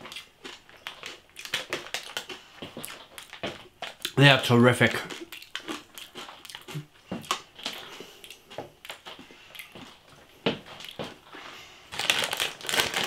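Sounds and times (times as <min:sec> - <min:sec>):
chewing crunchy pork scratchings: 0:00.0 - 0:13.0.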